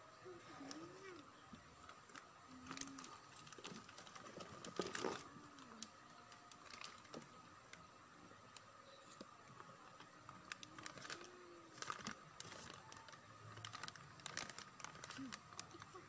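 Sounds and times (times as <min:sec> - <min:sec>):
plastic parts clicking and rustling: 0:00.6 - 0:07.9, 0:08.5 - 0:16.0.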